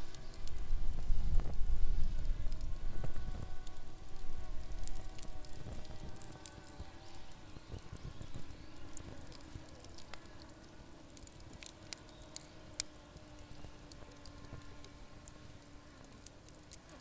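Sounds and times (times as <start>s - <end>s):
campfire crackling and popping: 0.0s - 17.0s
low flame rumble: 0.0s - 17.0s.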